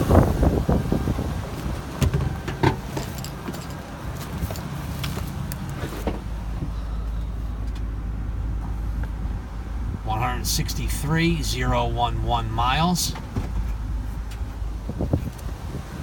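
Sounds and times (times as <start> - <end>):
engine idling: 2.2 - 15.4.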